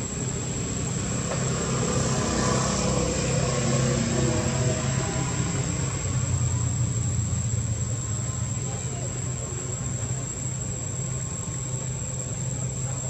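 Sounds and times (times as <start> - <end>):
engine running low rumble: 0.0 - 13.0.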